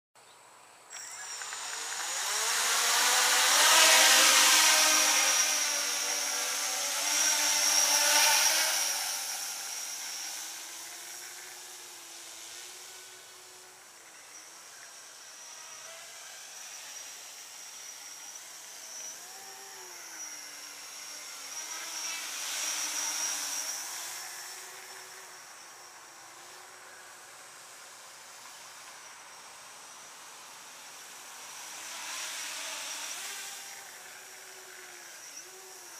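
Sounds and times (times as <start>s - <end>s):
drone propellers buzzing: 0.9s - 35.9s.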